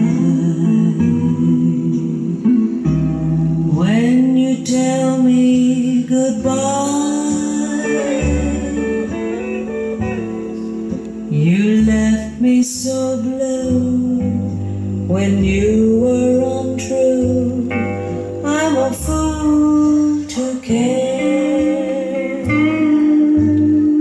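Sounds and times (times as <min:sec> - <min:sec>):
bass line: 0:00.0 - 0:24.0
guitar: 0:00.0 - 0:24.0
person singing: 0:00.0 - 0:24.0.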